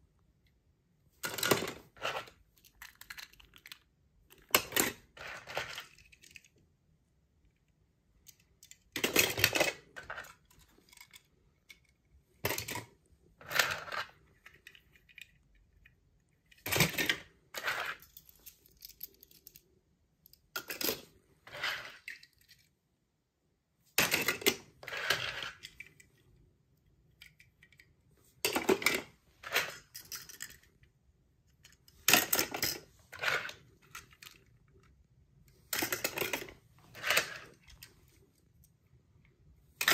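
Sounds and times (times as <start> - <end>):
toy cars clinking and clattering: 1.2 - 6.7, 7.5 - 22.8, 23.9 - 38.8.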